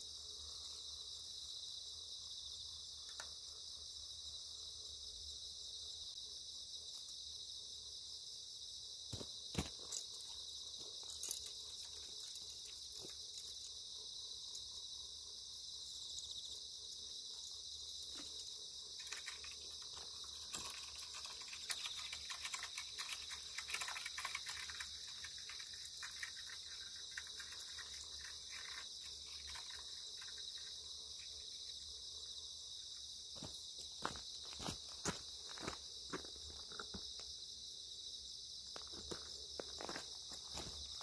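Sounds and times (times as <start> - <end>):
crickets and insects chirping: 0.0 - 41.0.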